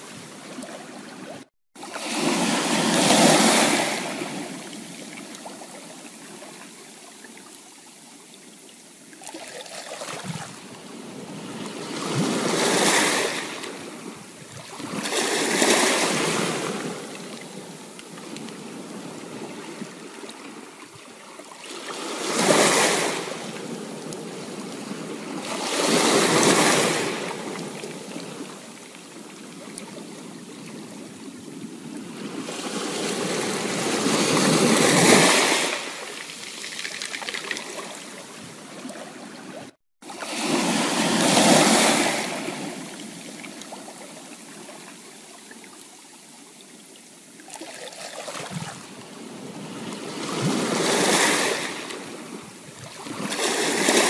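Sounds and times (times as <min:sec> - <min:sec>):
waves breaking on beach: 0:00.0 - 0:07.5, 0:09.1 - 0:46.4, 0:47.4 - 0:54.0.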